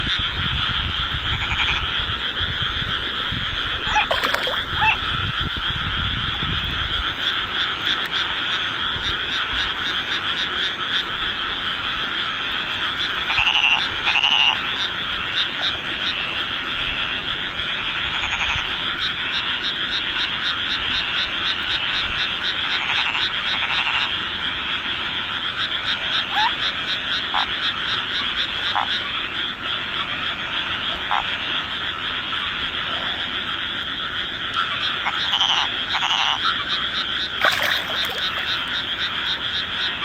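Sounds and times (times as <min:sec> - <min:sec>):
chorus of frogs calling: 0:00.0 - 0:40.0.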